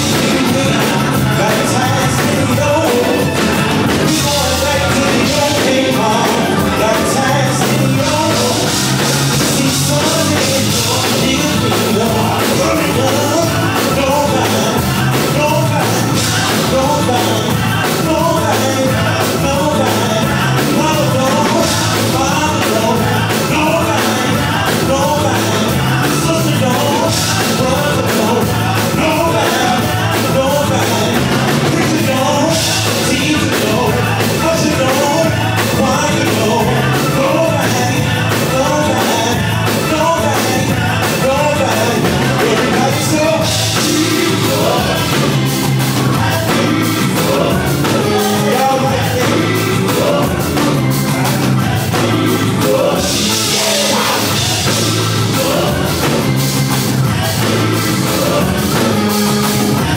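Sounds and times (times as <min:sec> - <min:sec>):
gospel band playing: 0:00.0 - 0:59.9
person singing: 0:00.0 - 0:59.9.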